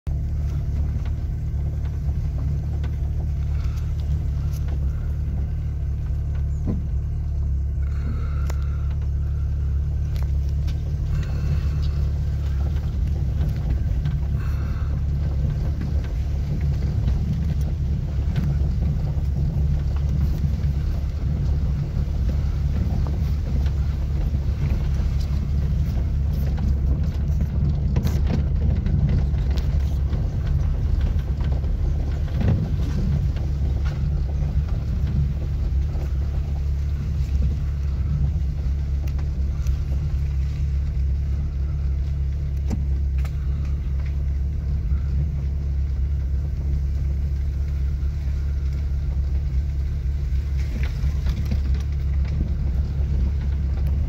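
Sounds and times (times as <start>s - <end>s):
car engine rumble from cabin: 0.0s - 54.0s.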